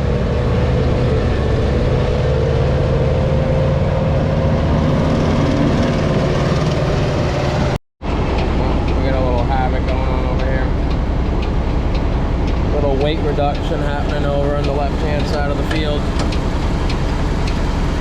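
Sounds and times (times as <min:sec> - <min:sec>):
heavy diesel engine running: 0:00.0 - 0:18.0
steady whine: 0:00.0 - 0:18.0.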